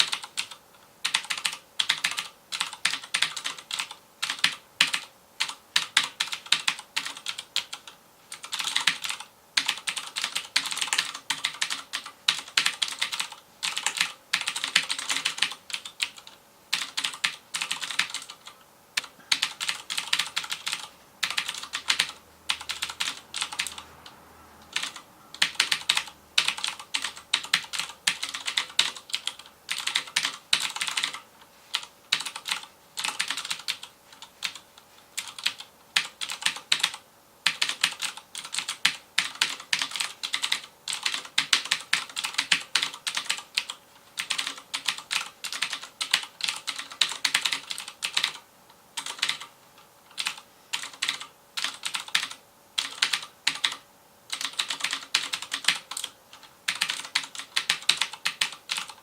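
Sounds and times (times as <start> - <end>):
clicky mechanical keyboard typing: 0.0 - 34.6, 35.2 - 48.4, 49.0 - 49.5, 50.1 - 59.0.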